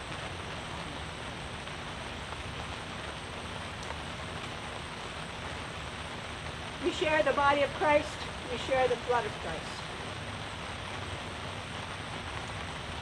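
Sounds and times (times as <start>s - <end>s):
rain falling on tent: 0.0s - 13.0s.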